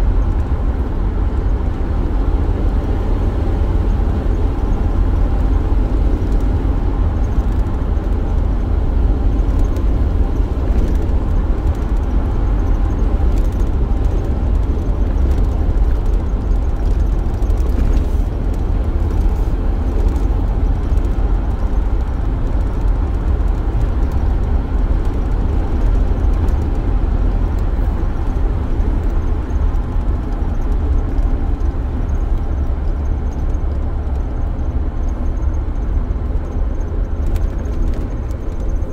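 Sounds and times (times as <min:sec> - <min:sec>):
van engine and road rumble: 0:00.0 - 0:38.9.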